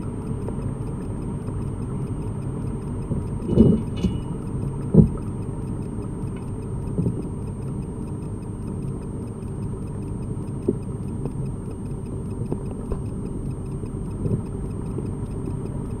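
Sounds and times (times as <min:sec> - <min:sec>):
faint ticking: 0:00.0 - 0:16.0.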